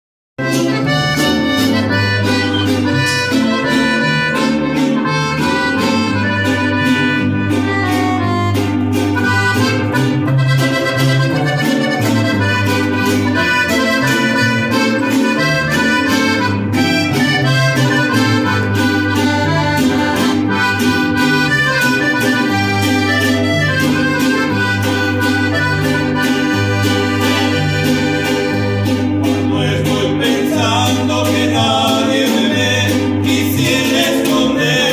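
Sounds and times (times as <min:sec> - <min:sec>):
piano accordion melody: 0:00.4 - 0:34.9
plucked upright bass: 0:00.4 - 0:34.9
strummed guitar: 0:00.4 - 0:34.9.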